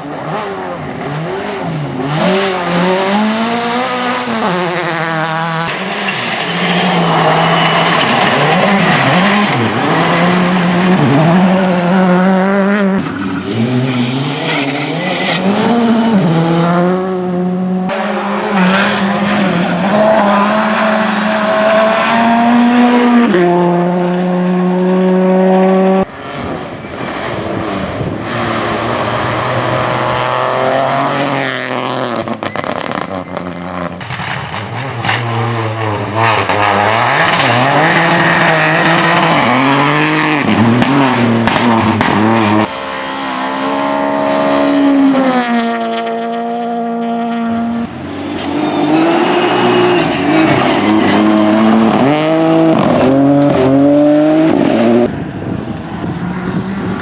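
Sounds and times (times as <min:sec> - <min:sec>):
rally car engines revving hard: 0:00.0 - 0:57.0.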